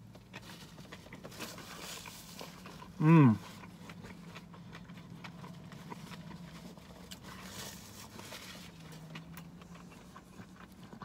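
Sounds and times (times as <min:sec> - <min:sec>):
mouth chewing with wet smacks: 0:00.0 - 0:11.0.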